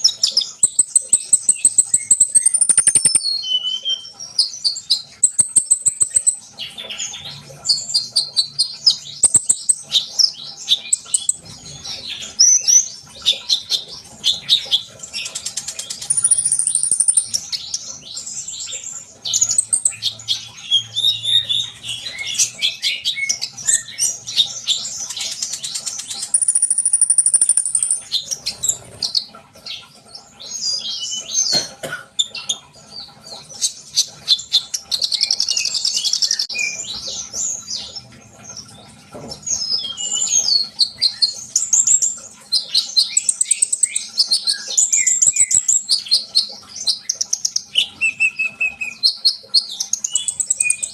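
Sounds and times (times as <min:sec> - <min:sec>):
bird chattering chirps and trills: 0:00.0 - 0:50.9.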